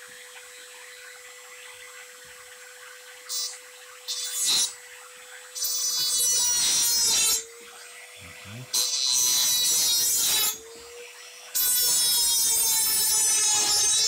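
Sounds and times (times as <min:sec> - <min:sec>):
rotary tool motor whine: 0:00.0 - 0:14.0.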